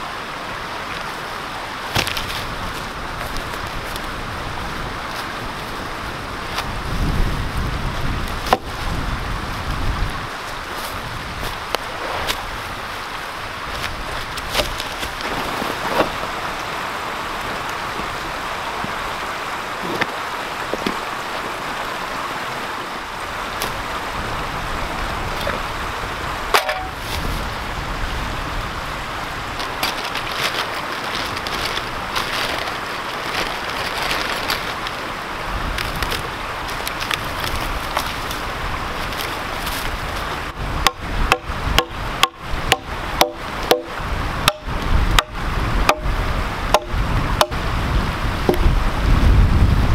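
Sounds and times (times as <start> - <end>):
wood and dry leaves crackling: 0.0 - 21.9, 24.7 - 49.5
creek rushing: 0.0 - 49.9.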